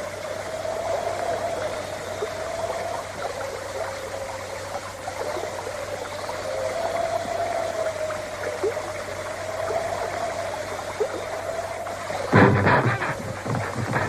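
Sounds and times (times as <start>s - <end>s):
steady wavering tone: 0.0s - 14.0s
water drips and splashes: 0.0s - 14.0s
water trickling and gurgling: 0.0s - 14.0s.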